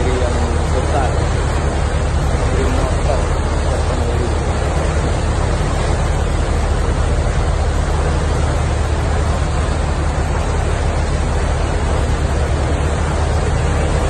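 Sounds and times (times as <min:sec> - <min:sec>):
boat engine drone: 0:00.0 - 0:14.0
propeller wash rushing: 0:00.0 - 0:14.0.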